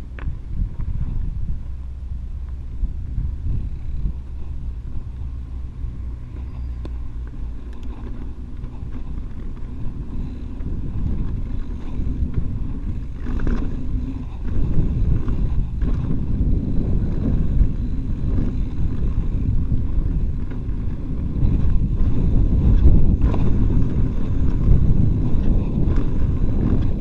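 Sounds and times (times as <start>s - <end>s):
bike clicks and rattles: 0.0s - 27.0s
low tyre rumble: 0.0s - 27.0s
wind on camera microphone: 0.0s - 27.0s.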